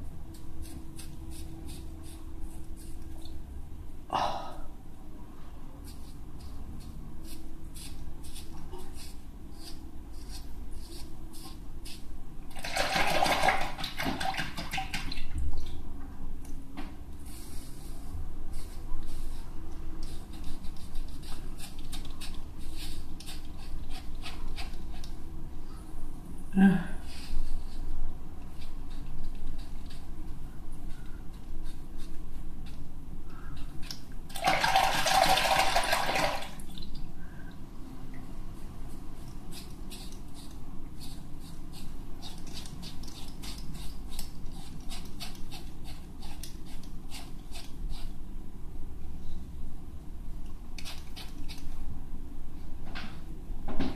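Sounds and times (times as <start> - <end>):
steady low hum: 0.0 - 12.7, 15.1 - 34.4, 36.0 - 53.9.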